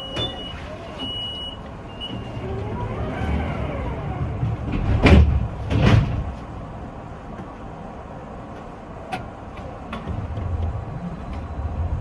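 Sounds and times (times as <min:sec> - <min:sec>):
tram door whine: 0:00.0 - 0:07.6, 0:09.1 - 0:12.0
tram doors thudding shut: 0:00.0 - 0:07.7, 0:08.5 - 0:12.0
low tram rumble: 0:00.0 - 0:12.0.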